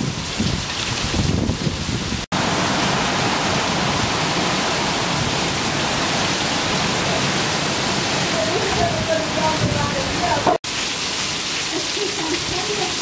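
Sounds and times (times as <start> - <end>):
heavy rain splashing into water: 0.0 - 13.0.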